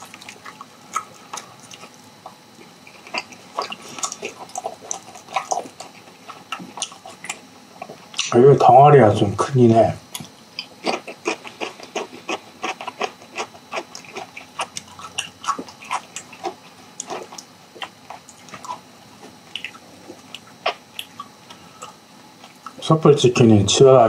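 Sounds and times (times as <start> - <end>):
chewing mouth clicks and smacks: 0.0 - 8.3, 10.1 - 22.8.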